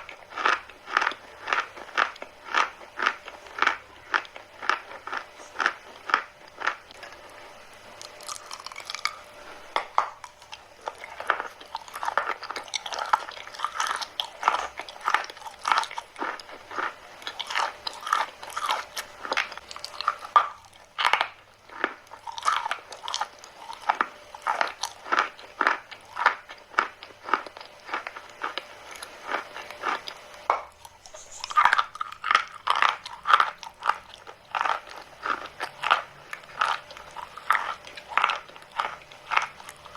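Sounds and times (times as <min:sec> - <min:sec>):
chalk crunching when chewed: 0:00.0 - 0:39.9.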